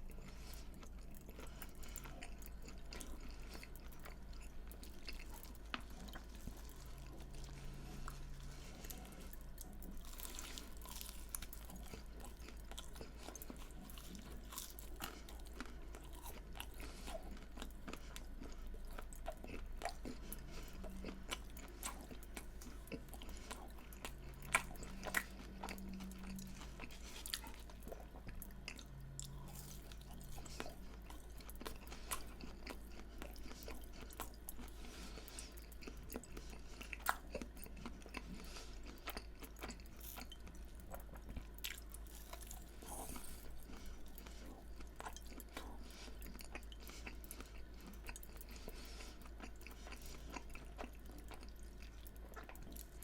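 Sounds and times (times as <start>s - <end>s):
chewing and crunching fried food: 0.0s - 53.0s.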